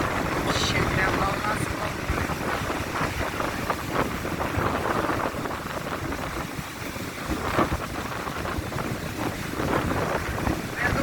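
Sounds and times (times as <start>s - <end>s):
waves breaking: 0.0s - 11.0s
wind rumbling on microphone: 0.0s - 11.0s.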